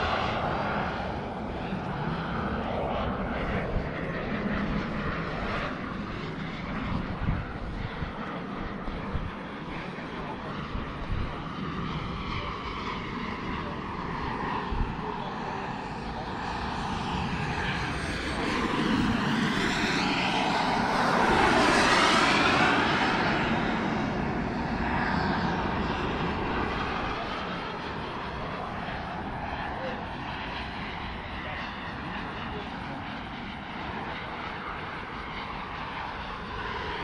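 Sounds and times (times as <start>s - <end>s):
model jet rush and whine: 0.0s - 37.0s.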